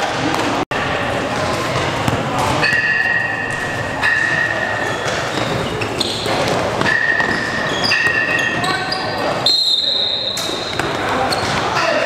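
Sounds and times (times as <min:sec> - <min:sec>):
crowd chatter in echoing hall: 0:00.0 - 0:12.0
sneakers squeaking on gym floor: 0:01.3 - 0:12.0.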